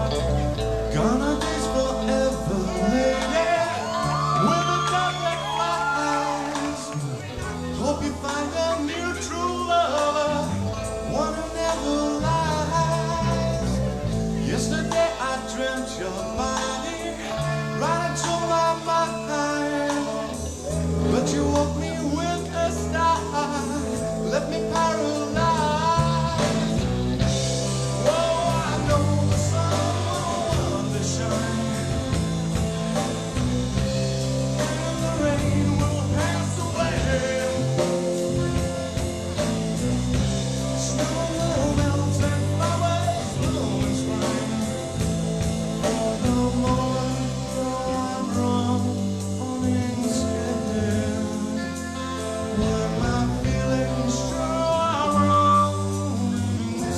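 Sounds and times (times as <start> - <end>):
bass line: 0.0 - 56.9
live band playing: 0.0 - 56.9
person singing: 0.0 - 56.9.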